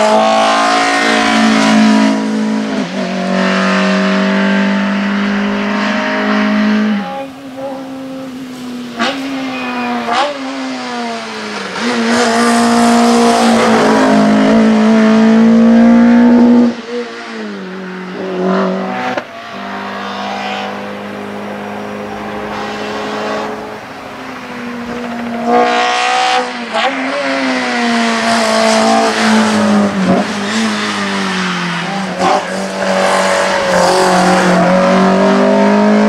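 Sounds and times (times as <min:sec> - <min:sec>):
racing car engine revving: 0:00.0 - 0:36.0.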